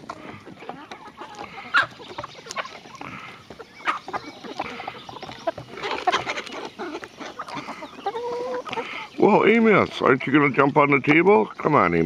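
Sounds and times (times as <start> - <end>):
hen clucking: 0.0 - 12.0.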